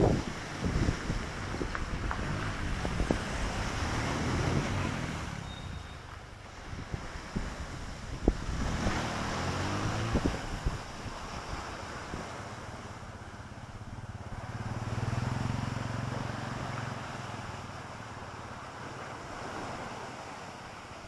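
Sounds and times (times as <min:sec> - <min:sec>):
wind buffeting microphone: 0:00.0 - 0:18.3
waves washing on shore: 0:00.0 - 0:21.0.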